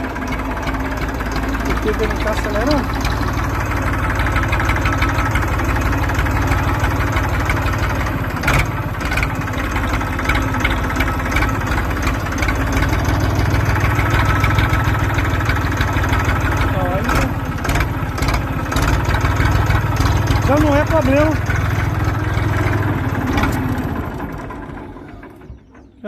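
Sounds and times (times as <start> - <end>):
engine knock: 0.0 - 26.0
tractor diesel engine idling: 0.0 - 26.0.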